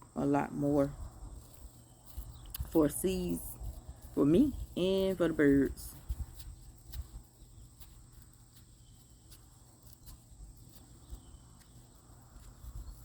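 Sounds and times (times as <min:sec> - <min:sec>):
sunflower seeds being picked off: 0:01.1 - 0:13.0.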